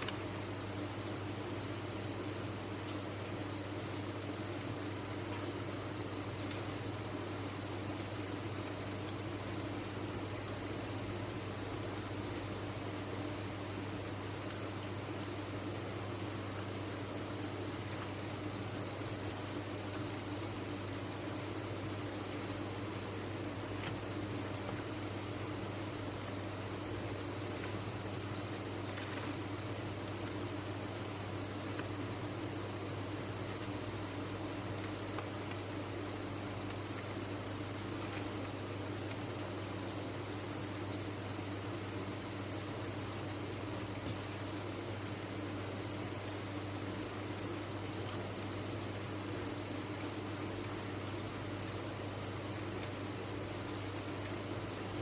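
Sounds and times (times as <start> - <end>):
crickets chirping chorus: 0.0 - 55.0.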